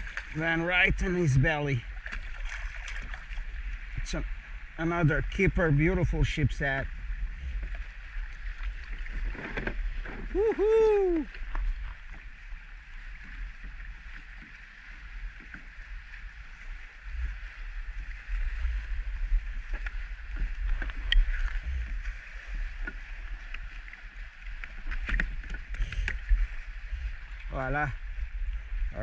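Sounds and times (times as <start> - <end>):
steady low rumble: 0.0 - 29.0
water lapping against kayak hull: 0.0 - 29.0.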